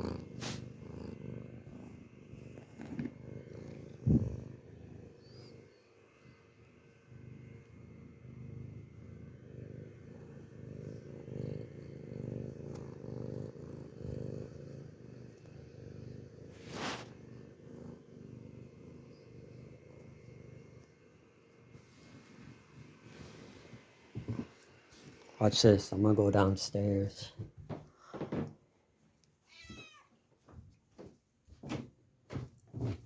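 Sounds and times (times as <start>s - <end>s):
cat purring: 0.0s - 28.1s.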